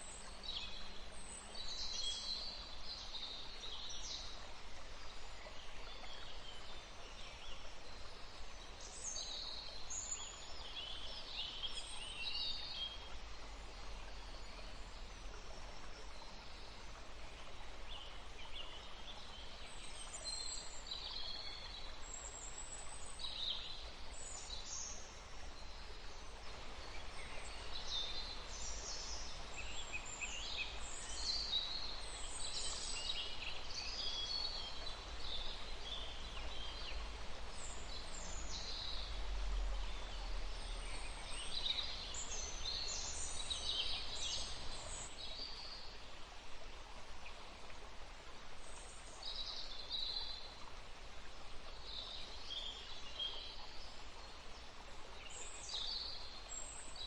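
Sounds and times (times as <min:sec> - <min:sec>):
songbirds chirping: 0:00.0 - 0:57.0
steady outdoor hiss: 0:00.0 - 0:57.0.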